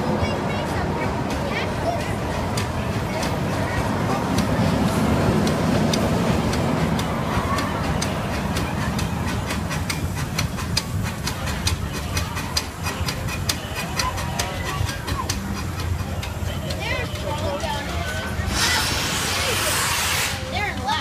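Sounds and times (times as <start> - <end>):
steam locomotive rumble and hiss: 0.0 - 21.0
wheel clicks over rail joints: 1.0 - 18.9.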